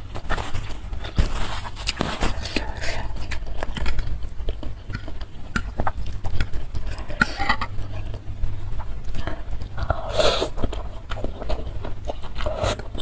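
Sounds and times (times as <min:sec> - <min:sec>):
chewing and mouth smacking: 0:00.0 - 0:13.0.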